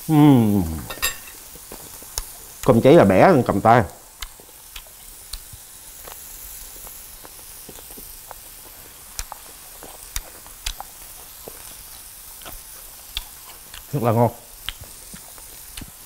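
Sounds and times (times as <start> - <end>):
meat sizzling on grill: 0.0 - 16.0
fat popping and crackling: 0.9 - 16.0.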